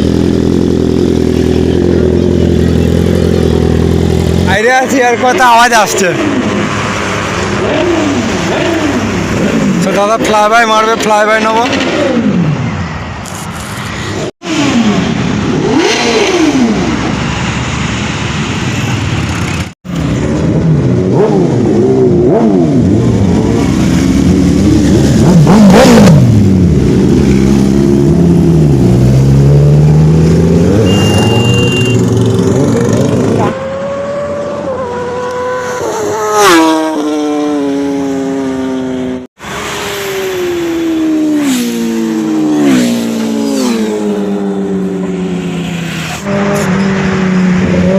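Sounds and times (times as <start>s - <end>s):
superbike engines revving past: 0.0s - 12.8s, 13.4s - 17.7s, 18.7s - 47.9s.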